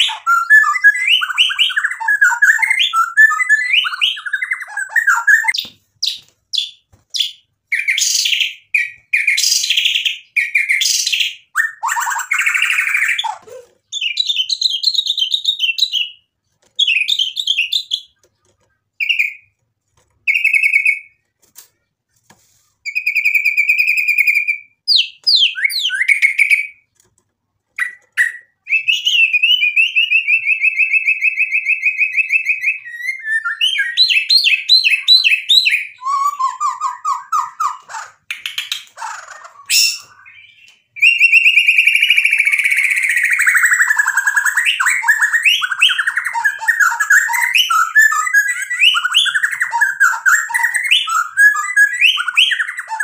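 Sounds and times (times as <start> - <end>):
bird singing varied song: 0.0 - 19.6, 22.8 - 27.0, 27.8 - 53.0.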